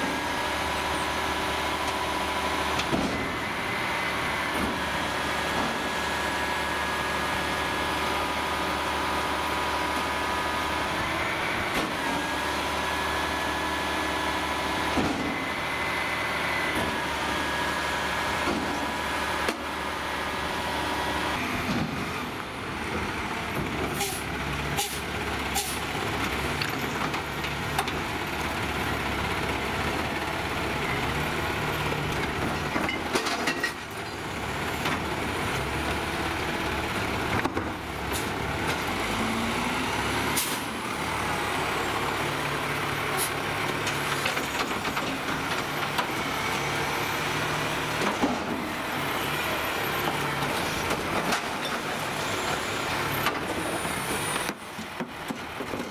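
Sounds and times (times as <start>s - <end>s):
garbage truck engine running: 0.0s - 55.9s.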